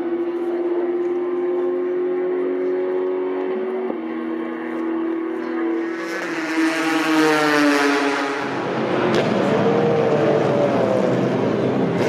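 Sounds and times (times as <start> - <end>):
race car engine wavering: 0.0 - 12.0.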